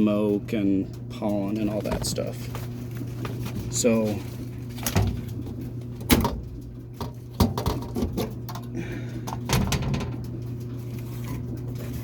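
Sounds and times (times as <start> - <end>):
steady low hum: 0.0 - 12.0
furnace filters knocking and rattling: 1.2 - 10.8.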